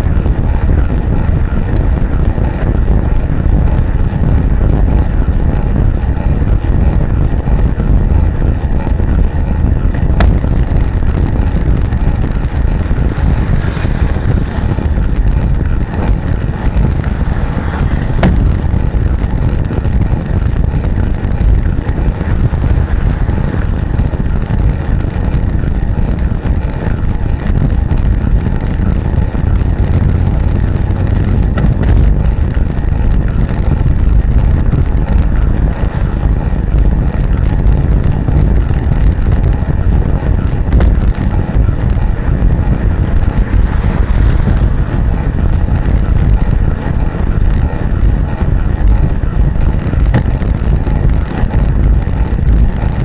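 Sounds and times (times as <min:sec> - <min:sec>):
road rumble: 0:00.0 - 0:53.0
wind on microphone: 0:00.0 - 0:53.0.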